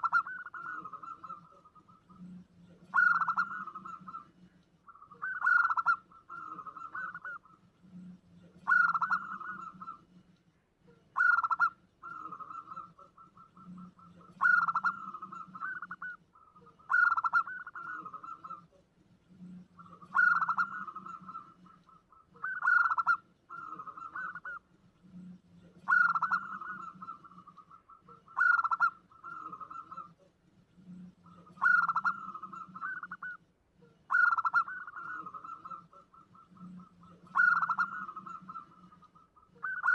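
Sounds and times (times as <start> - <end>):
dove cooing with rolling trill: 0.0 - 39.9.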